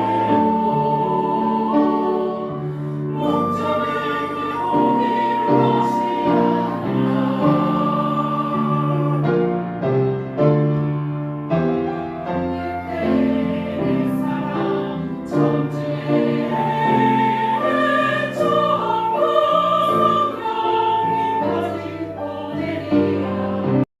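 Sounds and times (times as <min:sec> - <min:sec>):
choral singing with instruments: 0:00.0 - 0:10.2, 0:11.8 - 0:23.9.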